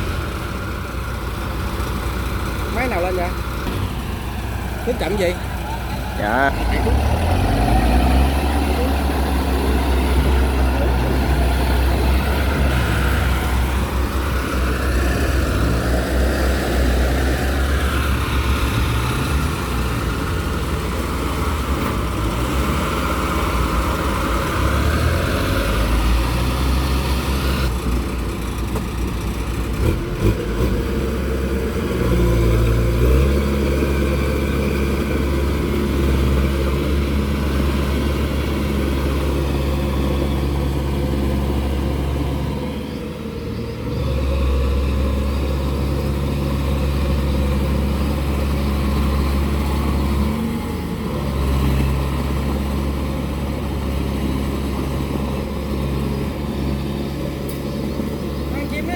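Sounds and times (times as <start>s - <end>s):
farm machinery engine running: 0.0s - 58.9s.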